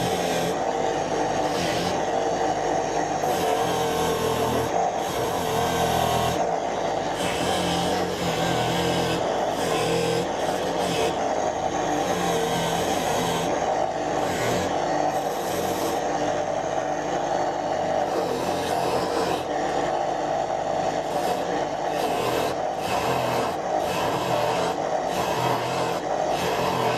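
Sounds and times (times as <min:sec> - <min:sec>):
angle grinder rasping: 0:00.0 - 0:26.9.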